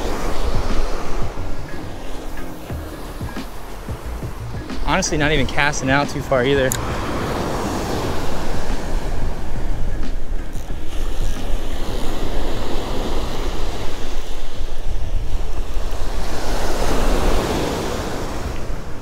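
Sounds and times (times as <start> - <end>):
ocean surf breaking: 0.0 - 19.0
wind rumbling on microphone: 0.0 - 19.0.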